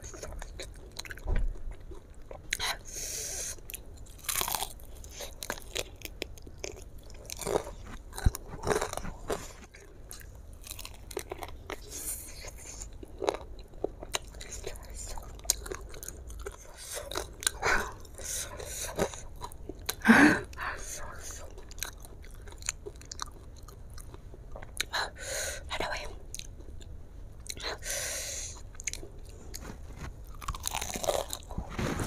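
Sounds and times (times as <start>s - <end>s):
crunchy chewing: 0.0s - 20.0s, 21.0s - 25.0s, 28.6s - 32.0s.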